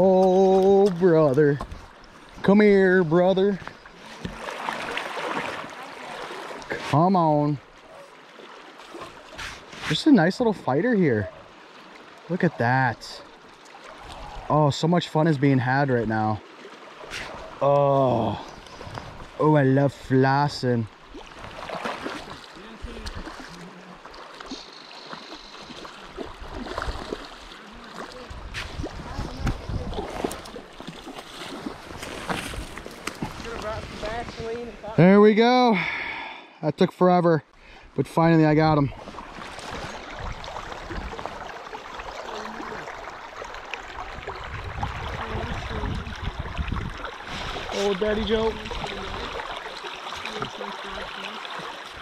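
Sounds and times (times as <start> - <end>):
small water splashes: 0.0 - 34.9, 38.4 - 52.0
river water gurgling and lapping: 0.0 - 52.0.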